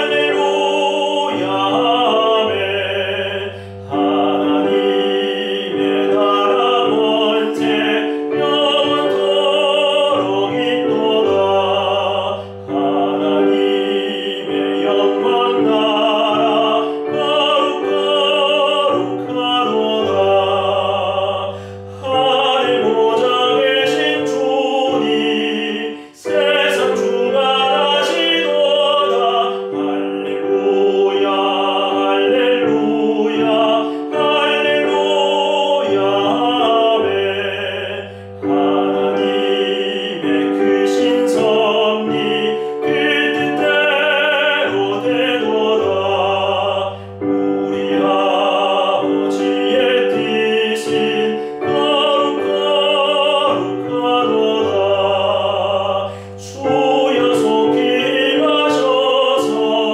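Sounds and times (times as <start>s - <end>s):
keyboard accompaniment: 0.0s - 59.9s
man singing a hymn: 0.0s - 59.9s.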